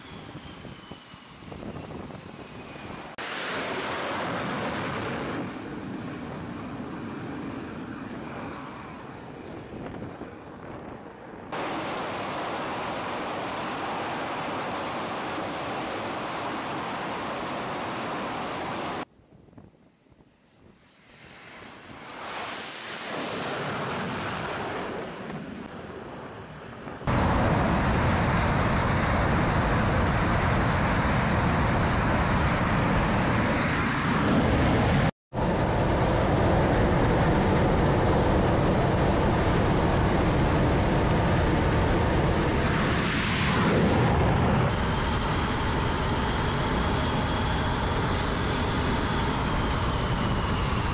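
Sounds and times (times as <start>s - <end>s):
jet engines roaring: 0.0s - 19.1s, 20.8s - 50.9s.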